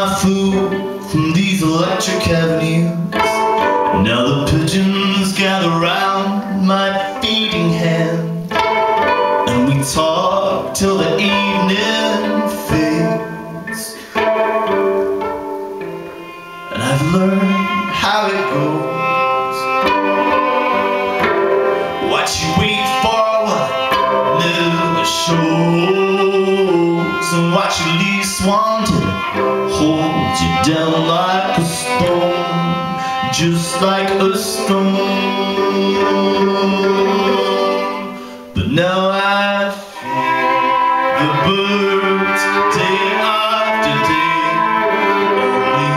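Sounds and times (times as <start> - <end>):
violin bowed: 0.0 - 45.9.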